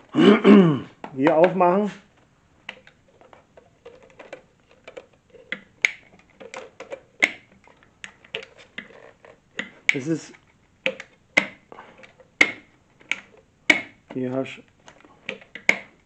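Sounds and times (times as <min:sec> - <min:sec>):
plastic clicks and taps: 0:02.2 - 0:16.0.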